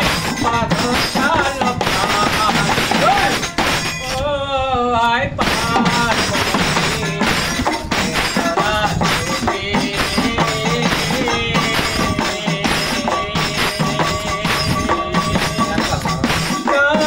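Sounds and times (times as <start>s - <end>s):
hand percussion strokes: 0.0s - 4.3s, 5.4s - 17.0s
man singing folk song: 0.0s - 17.0s.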